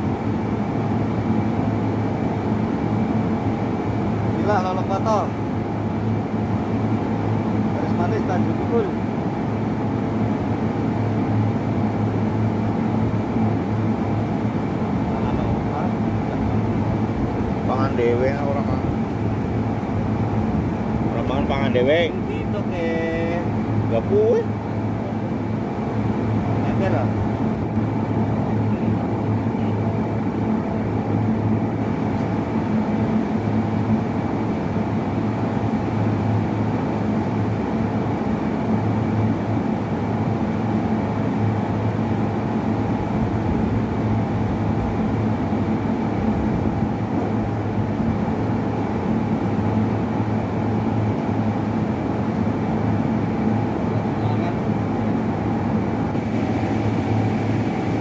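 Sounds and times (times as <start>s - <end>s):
faint high whine: 0.0s - 58.0s
machine low hum: 0.0s - 58.0s.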